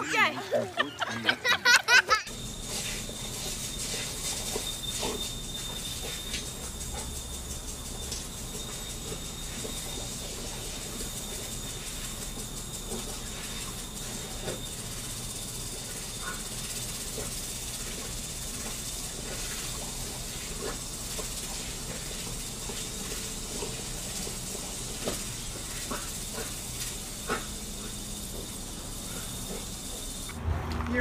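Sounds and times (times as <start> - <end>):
sprinkler spraying water: 1.6 - 31.0.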